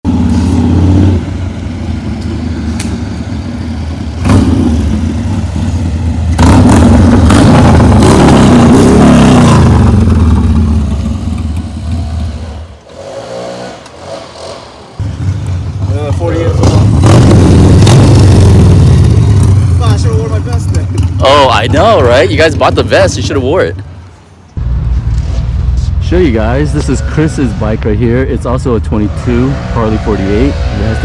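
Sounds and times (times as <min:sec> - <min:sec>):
motorcycle engine revving: 0:00.1 - 0:23.5, 0:26.7 - 0:31.0.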